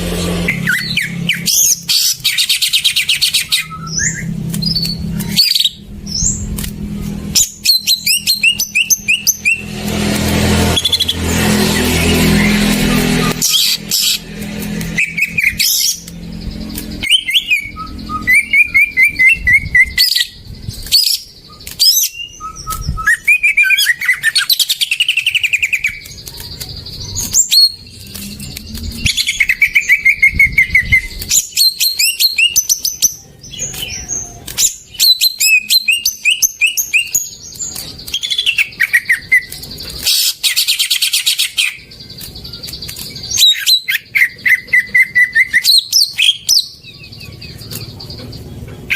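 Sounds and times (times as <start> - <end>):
bird singing fast chirps: 0.0 - 48.9.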